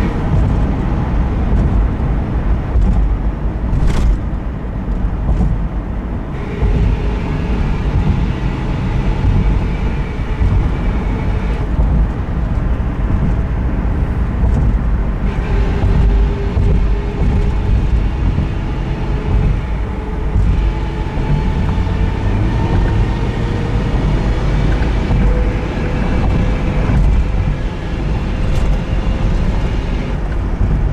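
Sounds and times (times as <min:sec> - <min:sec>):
grinding whine: 0:00.0 - 0:30.9
road and drivetrain rumble: 0:00.0 - 0:30.9.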